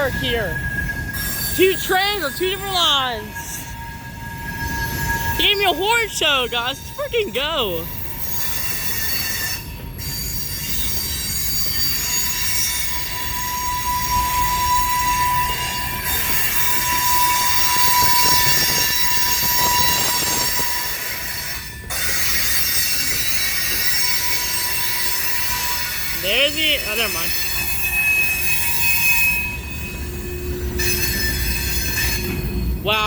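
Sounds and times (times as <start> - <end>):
high-pitched wheel squeals: 0.0 - 6.0, 7.8 - 33.0
train wheels rumbling on rail: 0.0 - 7.0, 7.8 - 33.0.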